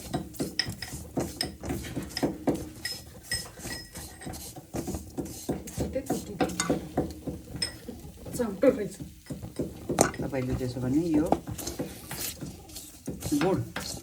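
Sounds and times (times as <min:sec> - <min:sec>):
spices frying in a pan: 0:00.0 - 0:14.0
spoon scraping and clinking pan: 0:00.0 - 0:14.0.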